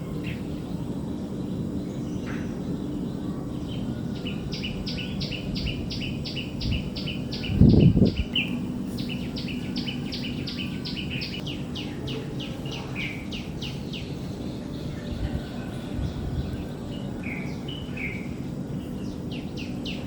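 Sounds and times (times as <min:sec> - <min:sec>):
small bird singing: 0:00.0 - 0:20.0.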